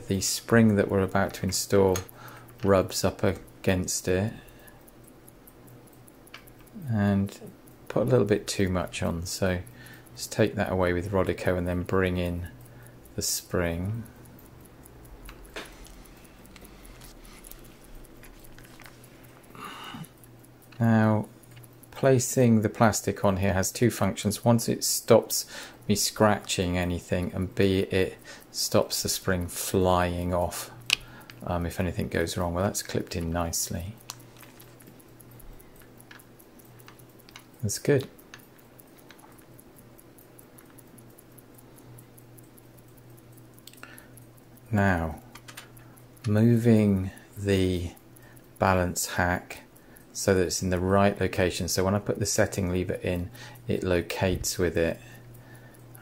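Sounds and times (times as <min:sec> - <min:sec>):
light metal ticks: 0:00.0 - 0:56.0
low steady hum: 0:00.0 - 0:56.0
tweezers clicking on metal parts: 0:00.0 - 0:56.0.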